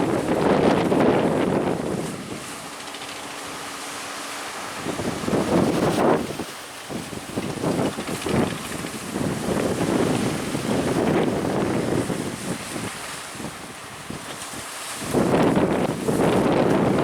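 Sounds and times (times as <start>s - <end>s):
sea surf: 0.0s - 17.0s
wind gusting across microphone: 0.0s - 17.0s.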